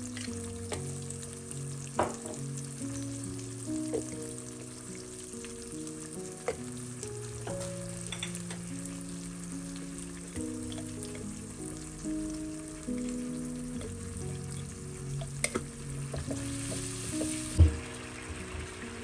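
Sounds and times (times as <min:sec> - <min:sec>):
sauce sizzling in a frying pan: 0:00.0 - 0:19.0
soft background music: 0:00.0 - 0:19.0.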